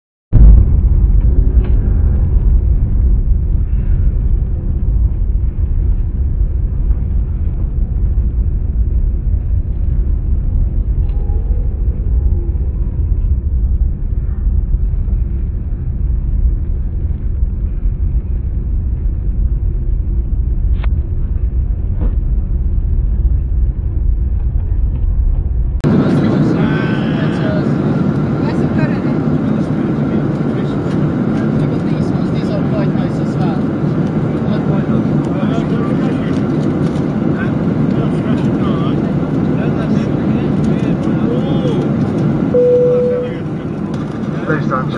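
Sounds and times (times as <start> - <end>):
jet cabin rumble: 0.4 - 44.9.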